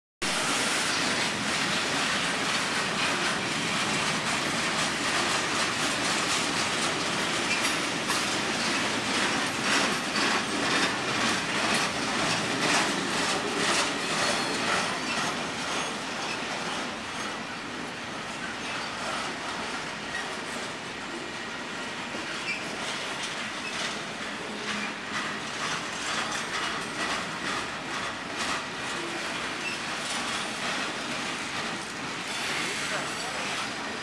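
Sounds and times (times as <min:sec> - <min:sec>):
wheels clacking over rail joints: 0:00.2 - 0:20.8, 0:21.8 - 0:34.0
train wheels rumbling on rails: 0:00.2 - 0:34.0.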